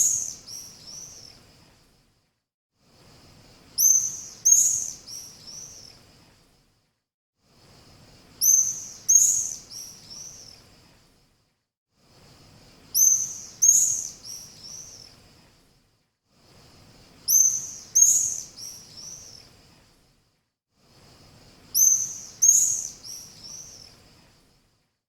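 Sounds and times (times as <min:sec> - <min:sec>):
faint hiss: 0:00.0 - 0:02.2, 0:02.8 - 0:06.8, 0:07.4 - 0:24.9.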